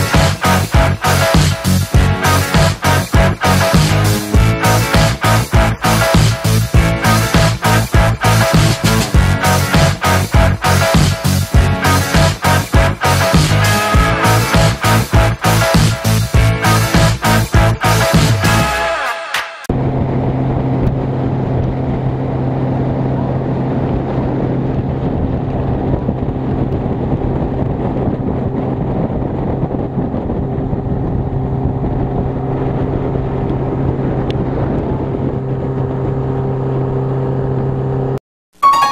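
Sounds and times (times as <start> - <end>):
outboard motor humming: 0.0 - 18.7, 19.7 - 38.2
water and wind rushing: 0.0 - 19.0, 19.7 - 38.2.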